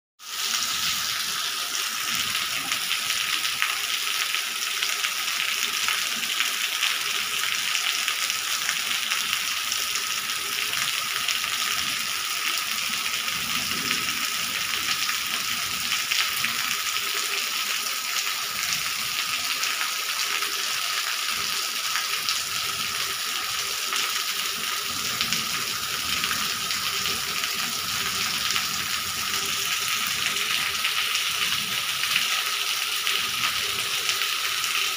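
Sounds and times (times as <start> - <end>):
steady rain on tiles and leaves: 0.2 - 34.9.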